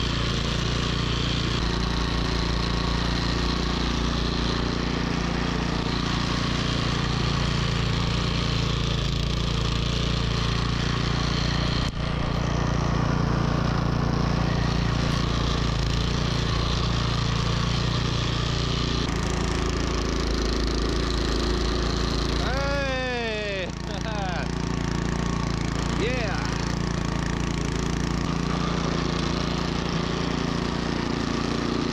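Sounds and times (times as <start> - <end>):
snowblower engine running: 0.0 - 31.9.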